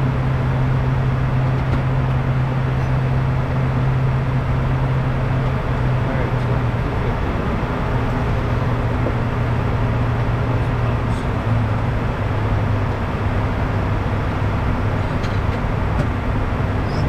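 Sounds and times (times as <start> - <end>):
constant low drone: 0.0 - 17.0
jet engines humming: 0.0 - 17.0.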